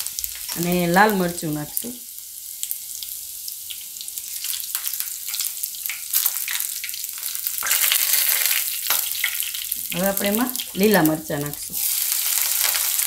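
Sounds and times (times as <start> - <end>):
hot oil sizzling and popping: 0.0 - 13.0.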